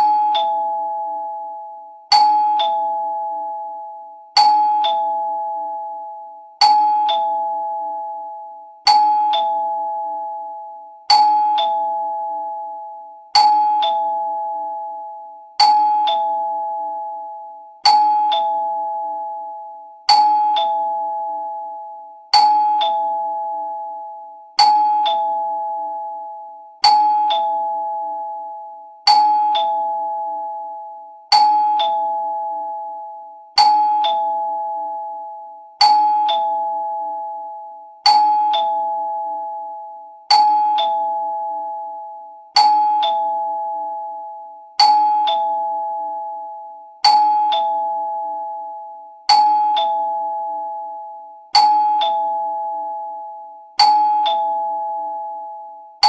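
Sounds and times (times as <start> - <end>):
two-tone doorbell chime: 0.0 - 56.0.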